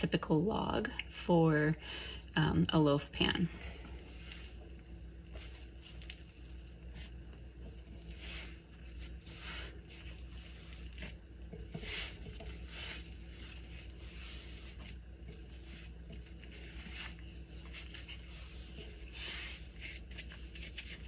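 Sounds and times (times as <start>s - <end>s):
dough squishing: 0.0s - 21.0s
dough rubbing on counter: 3.7s - 21.0s.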